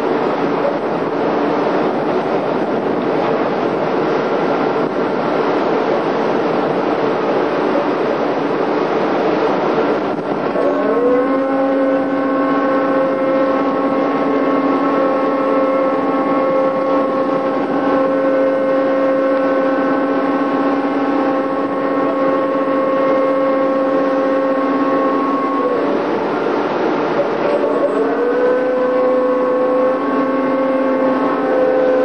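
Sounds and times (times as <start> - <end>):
steady background noise: 0.0 - 32.0
tugboat engine revving: 0.0 - 32.0.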